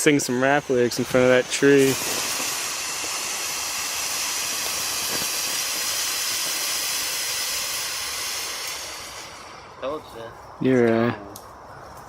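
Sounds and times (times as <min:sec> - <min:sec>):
firework fountain hissing: 0:00.0 - 0:10.2.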